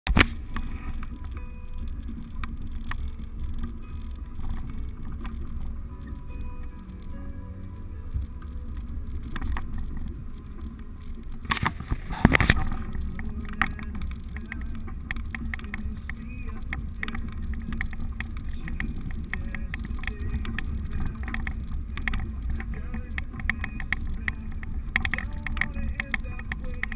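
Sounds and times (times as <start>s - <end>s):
low engine drone: 0.1s - 26.9s.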